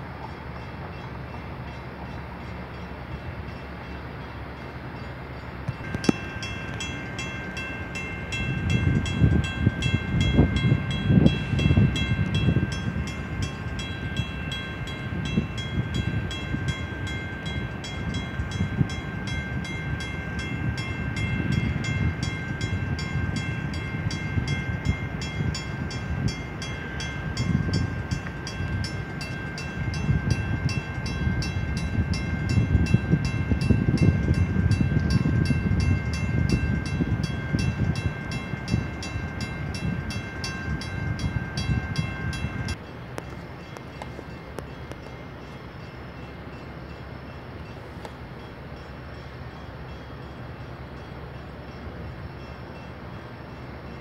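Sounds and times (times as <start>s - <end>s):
high ringing tone: 2.7s - 54.0s.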